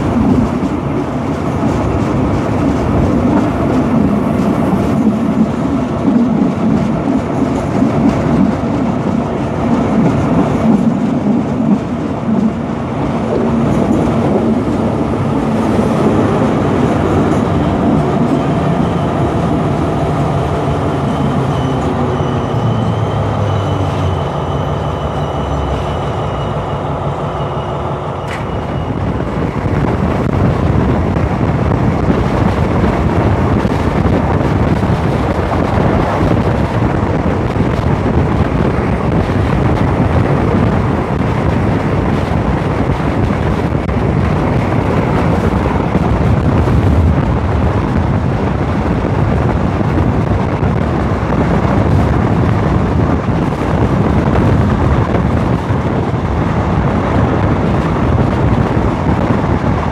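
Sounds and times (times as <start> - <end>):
train wheels clattering on rails: 0.0 - 26.0, 28.1 - 59.9
diesel locomotive engine running: 0.0 - 59.9.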